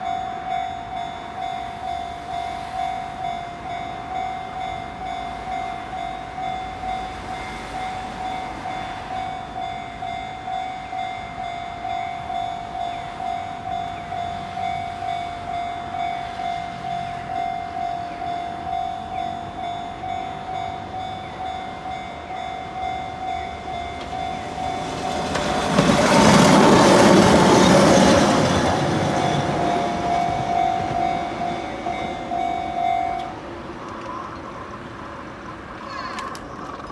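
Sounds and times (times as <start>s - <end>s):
level crossing bell ringing: 0.0s - 33.5s
train wheels on rails: 0.0s - 36.9s.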